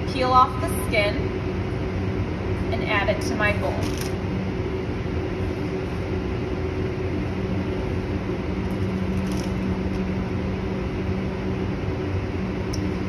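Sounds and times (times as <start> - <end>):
kitchen equipment hum: 0.0 - 13.0.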